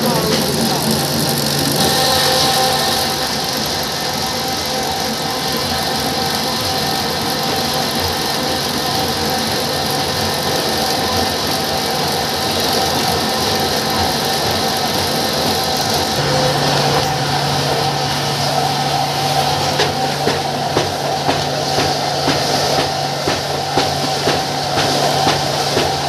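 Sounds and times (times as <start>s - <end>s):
veneer lathe running: 0.0s - 26.0s.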